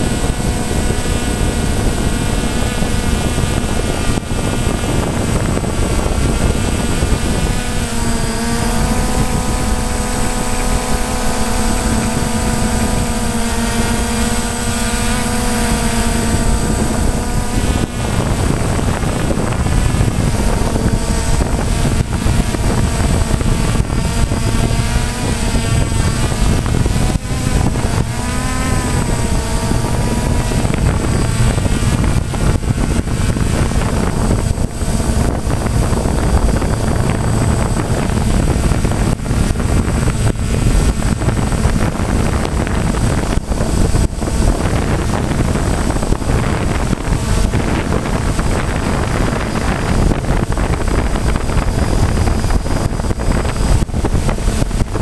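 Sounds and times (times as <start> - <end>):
drone motors buzzing: 0.0 - 55.0
thin high whine: 0.0 - 55.0
wind rumble on microphone: 0.0 - 55.0.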